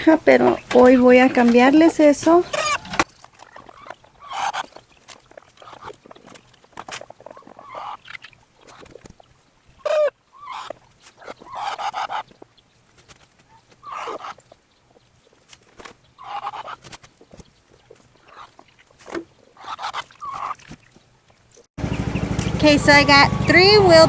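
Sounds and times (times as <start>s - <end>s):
hens clucking and squawking: 0.0s - 21.0s.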